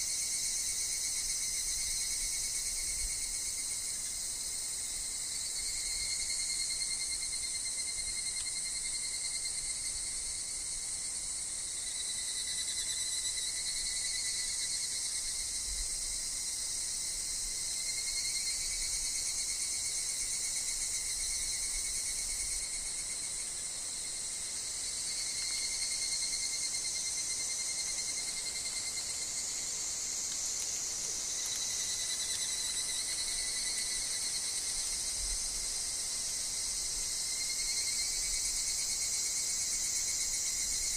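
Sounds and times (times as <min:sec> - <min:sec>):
cicadas and insects buzzing: 0:00.0 - 0:40.9.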